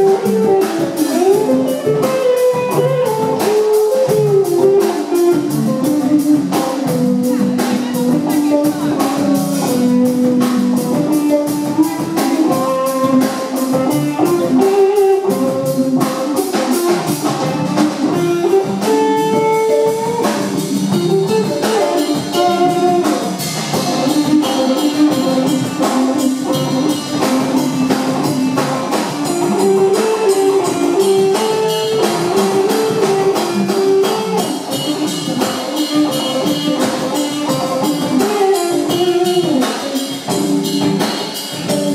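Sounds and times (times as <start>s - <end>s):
drum kit beat: 0.0s - 41.9s
electric bass guitar: 0.0s - 41.9s
electric guitar melody: 0.0s - 41.9s.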